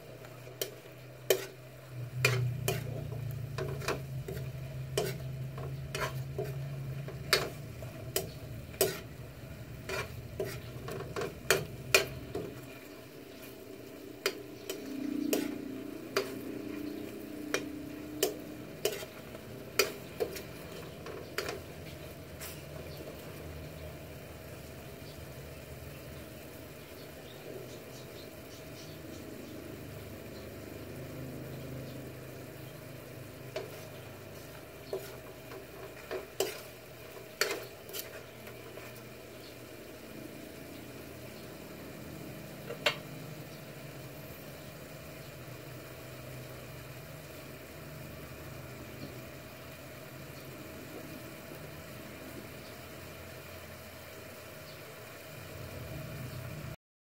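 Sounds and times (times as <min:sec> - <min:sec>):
sauce sizzling and bubbling in a pan: 0:00.0 - 0:56.8.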